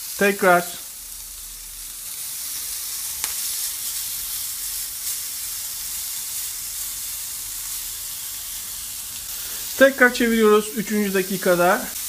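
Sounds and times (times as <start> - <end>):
meat sizzling in grill pan: 0.0 - 12.0.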